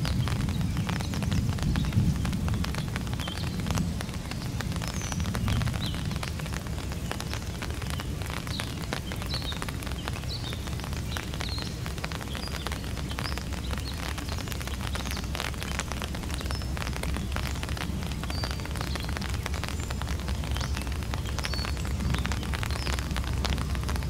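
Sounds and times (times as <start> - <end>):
dense crackle of clicks: 0.0 - 24.0
distant train rumble: 0.0 - 24.0.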